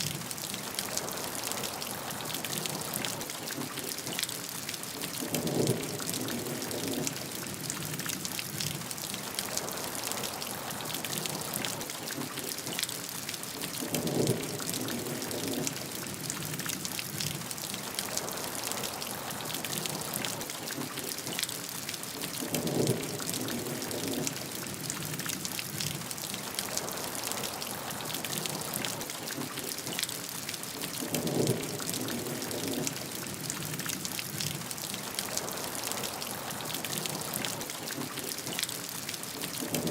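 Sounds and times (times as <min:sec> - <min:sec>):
rain drops pattering: 0:00.0 - 0:39.9
deep rain surge: 0:05.0 - 0:12.8, 0:13.6 - 0:21.4, 0:22.2 - 0:39.9.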